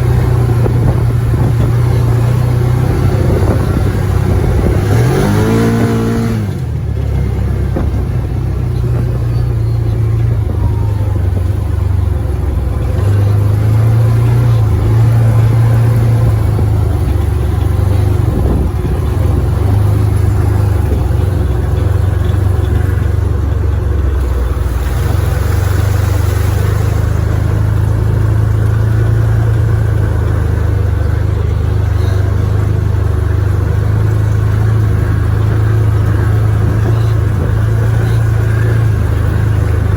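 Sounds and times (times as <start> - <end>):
utility vehicle engine droning: 0.0 - 39.9.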